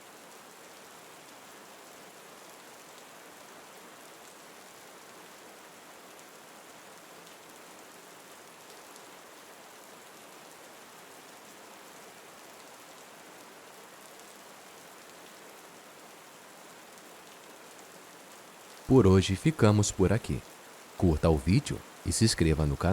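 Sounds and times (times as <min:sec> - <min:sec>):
faint rain falling: 0:00.0 - 0:22.9.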